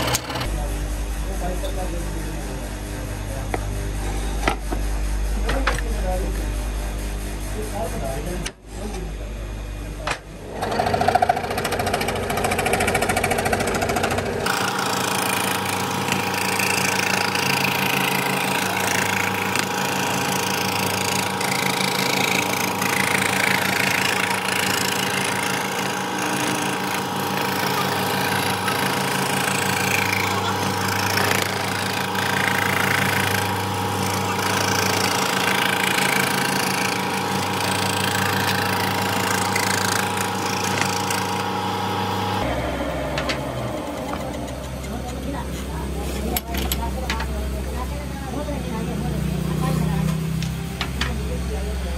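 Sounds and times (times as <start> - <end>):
power tool motor humming: 0.0 - 0.7, 10.4 - 51.6.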